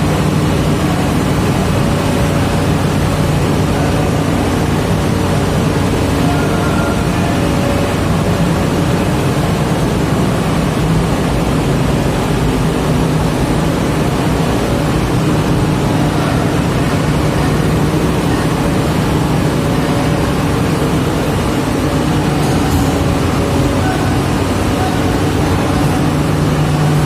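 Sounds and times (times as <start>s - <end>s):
large diesel engine running: 0.0s - 27.0s.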